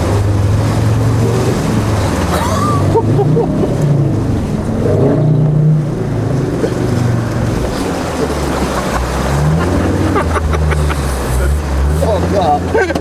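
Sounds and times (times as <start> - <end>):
diesel engine under load: 0.0 - 13.0
water rushing and splashing: 0.0 - 13.0.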